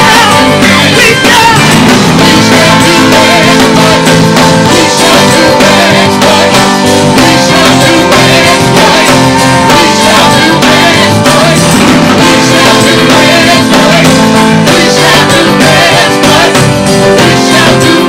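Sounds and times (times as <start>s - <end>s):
person singing: 0.0s - 18.0s
worship band playing: 0.0s - 18.0s.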